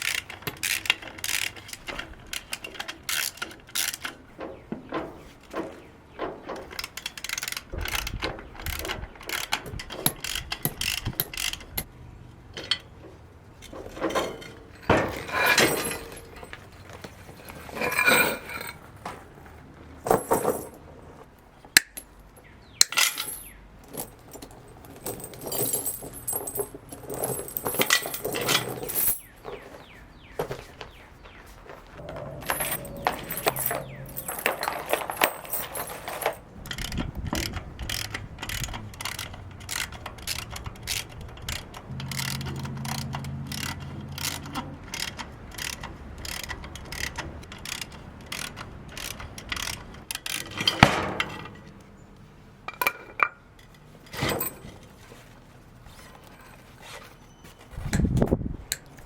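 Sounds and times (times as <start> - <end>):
metal tools clinking on metal: 0.0 - 11.9, 12.5 - 19.2, 20.0 - 20.9, 21.8 - 30.6, 32.0 - 52.0, 52.7 - 55.3.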